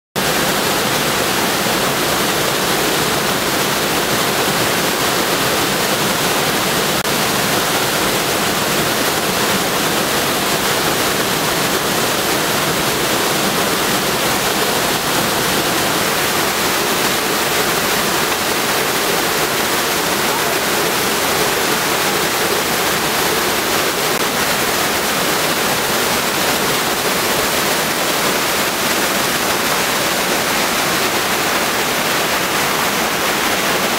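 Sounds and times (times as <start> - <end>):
floodwater rushing over rocks: 0.2 - 33.9.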